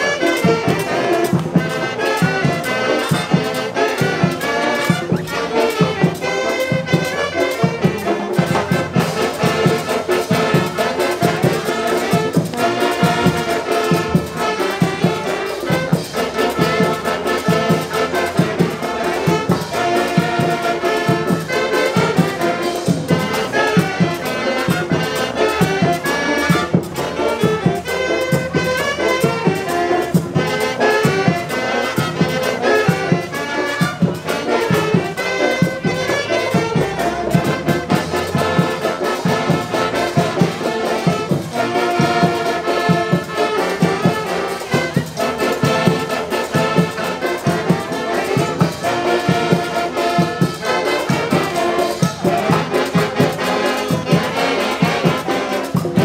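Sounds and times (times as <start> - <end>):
brass music with steady beat: 0.0 - 56.0.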